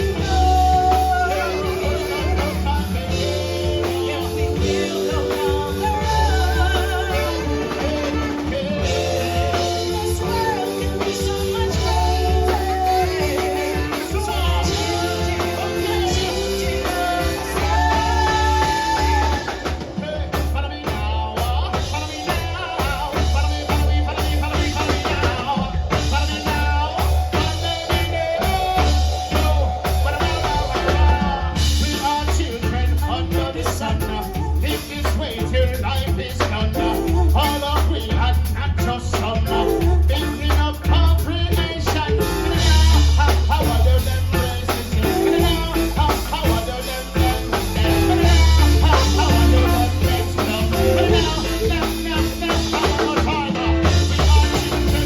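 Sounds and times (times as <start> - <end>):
drum kit beat: 0.0 - 55.0
heavy bass line: 0.0 - 55.0
live band music: 0.0 - 55.0.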